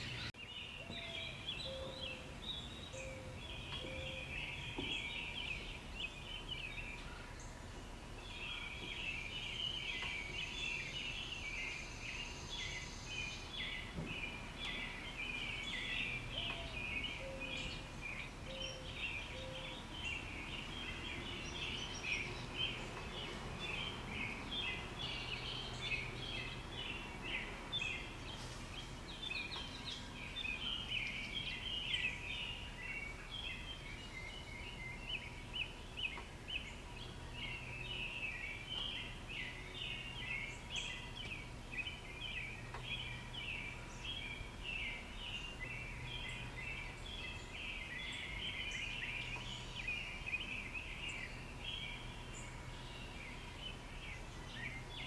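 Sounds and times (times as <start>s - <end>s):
high chirps in woodland: 0.0s - 55.0s
low outdoor background rumble: 0.0s - 55.0s.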